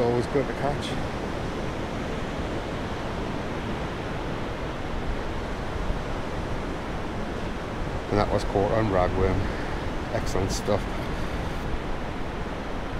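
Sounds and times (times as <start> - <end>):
sea surf breaking on beach: 0.0 - 12.9
wind noise: 0.0 - 12.9.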